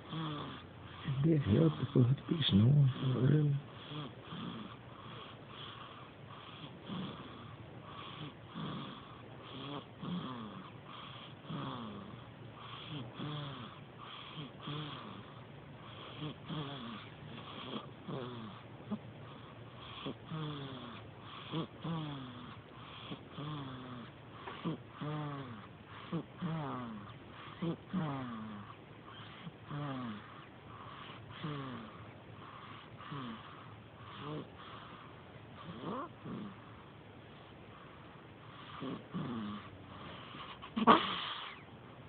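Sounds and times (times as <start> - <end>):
baby snoring: 0.0 - 36.8, 37.8 - 41.7.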